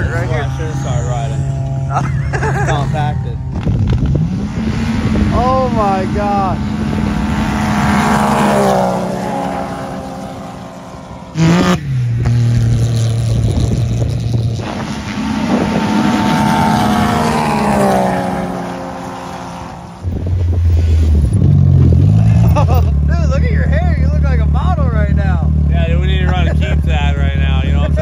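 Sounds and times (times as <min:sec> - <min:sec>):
off-road vehicle engines racing: 0:00.0 - 0:28.0.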